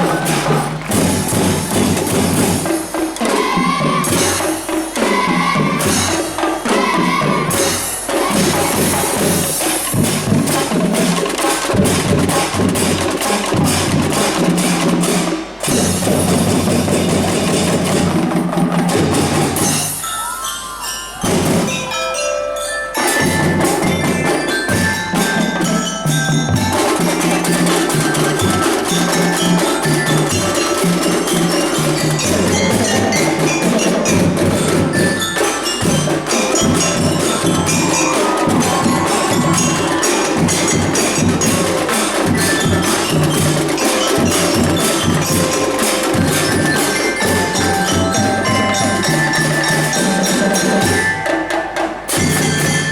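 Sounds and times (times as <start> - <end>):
marching drums: 0.0 - 20.1, 21.2 - 22.0, 23.0 - 52.9
mallet-struck bells melody: 0.0 - 52.9.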